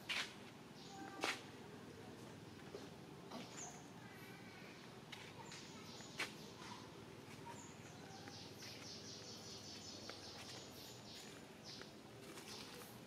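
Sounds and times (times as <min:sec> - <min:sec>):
low steady hiss: 0:00.0 - 0:13.0
birds chirping: 0:01.9 - 0:13.0.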